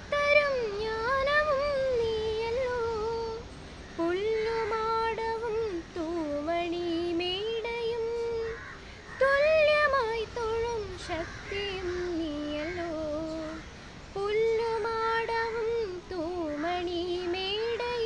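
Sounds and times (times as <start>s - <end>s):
girl singing unaccompanied: 0.0s - 18.0s.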